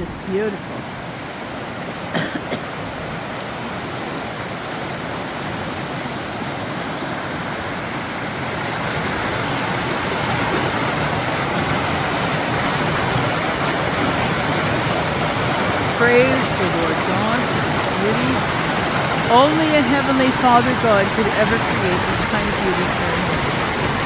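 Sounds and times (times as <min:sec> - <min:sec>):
creek rushing over rocks: 0:02.8 - 0:24.0.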